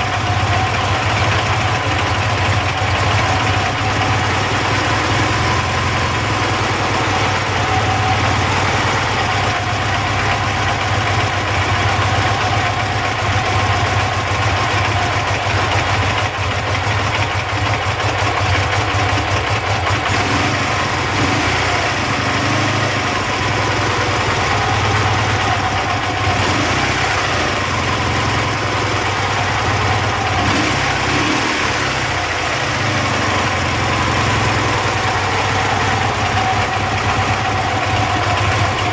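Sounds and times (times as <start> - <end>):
engine knock: 0.0 - 38.9
motorcycle engine idling: 0.0 - 38.9.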